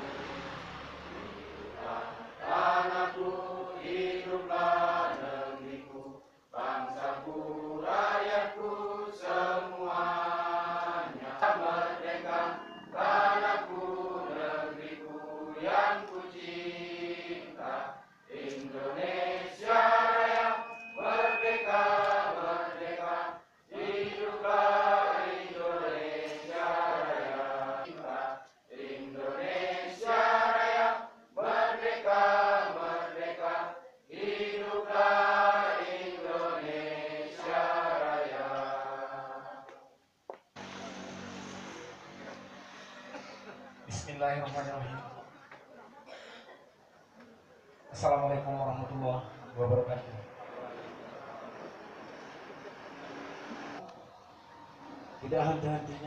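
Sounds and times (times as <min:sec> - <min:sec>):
crowd singing in unison: 0:00.0 - 0:40.0, 0:48.0 - 0:56.0.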